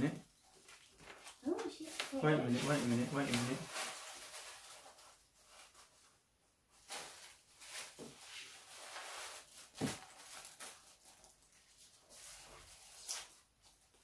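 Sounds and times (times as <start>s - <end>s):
tissue paper rustling: 0.3s - 14.0s.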